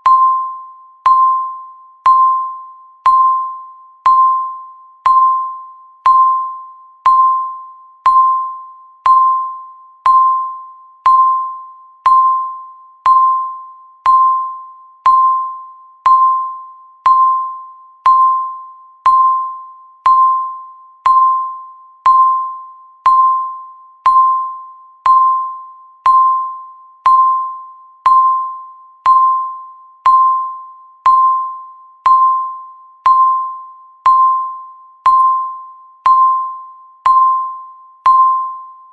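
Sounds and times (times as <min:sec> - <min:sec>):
timer beeping: 0:00.0 - 0:38.9.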